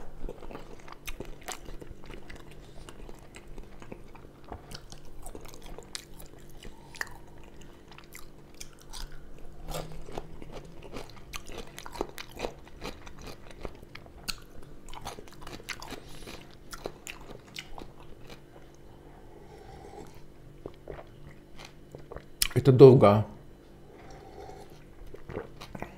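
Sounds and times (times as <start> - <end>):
crunching and chewing food: 0.0 - 22.6, 23.8 - 25.9.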